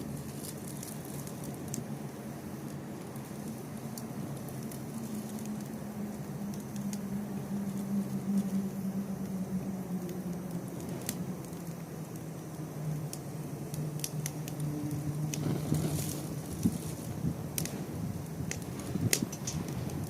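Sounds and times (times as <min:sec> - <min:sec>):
steady low hum: 0:00.0 - 0:20.0
wood fire crackling and popping: 0:00.0 - 0:20.0.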